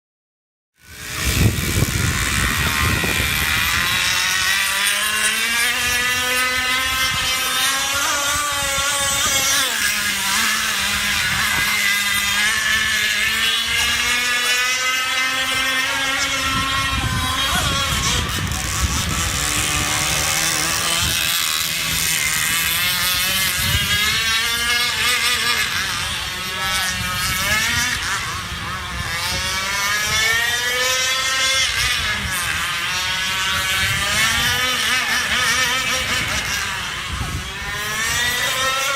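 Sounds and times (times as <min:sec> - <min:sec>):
model boat motor running: 0:00.8 - 0:38.9.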